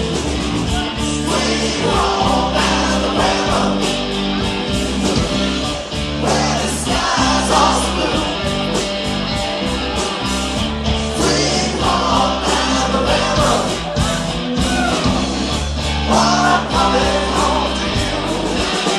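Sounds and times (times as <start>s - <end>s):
live rock band playing: 0.0s - 18.9s.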